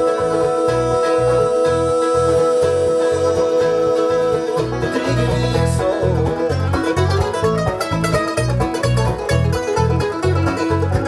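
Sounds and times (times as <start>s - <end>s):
acoustic guitar picking: 0.0s - 11.0s
banjo picking: 0.0s - 11.0s
bass guitar plucking: 0.0s - 11.0s
mandolin picking: 0.0s - 11.0s.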